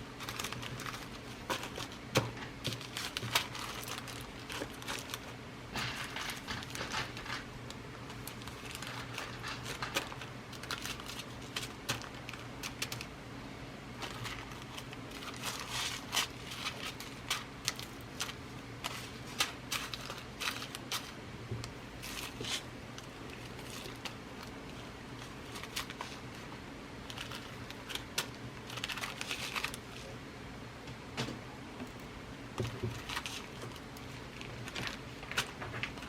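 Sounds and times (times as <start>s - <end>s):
rustling packaging: 0.0s - 13.1s, 13.9s - 30.2s, 32.6s - 36.0s.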